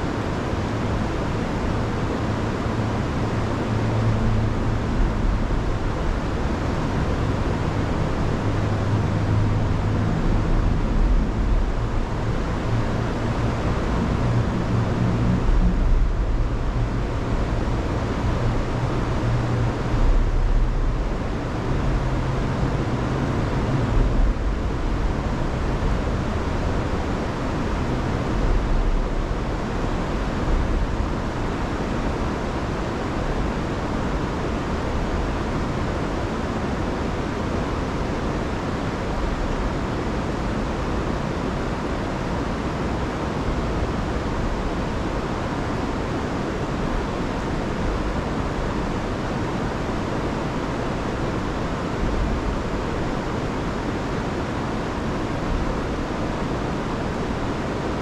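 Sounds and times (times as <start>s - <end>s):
river rushing over waterfalls: 0.0s - 58.0s.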